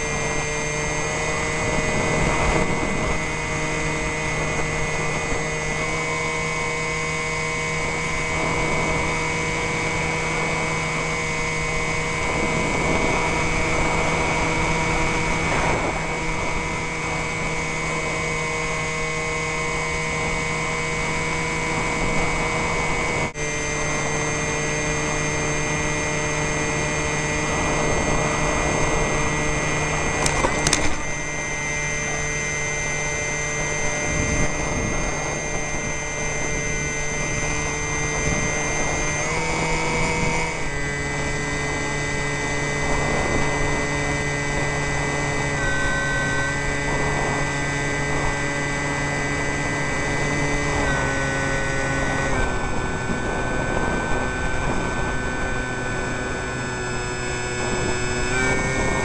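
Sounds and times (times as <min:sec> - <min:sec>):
model plane motor whining: 0:00.0 - 0:59.0
wind rushing over microphone: 0:00.0 - 0:59.0.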